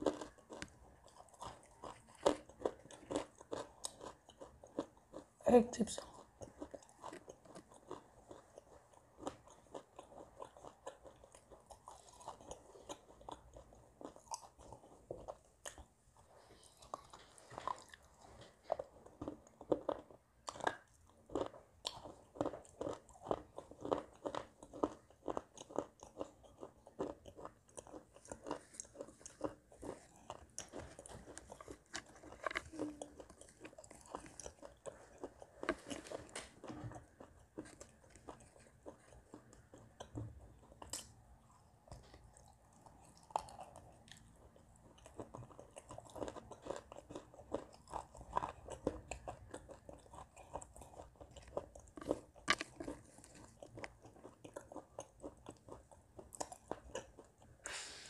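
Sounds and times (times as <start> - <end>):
person chewing crunchy clay: 0.0 - 5.4, 6.0 - 58.0.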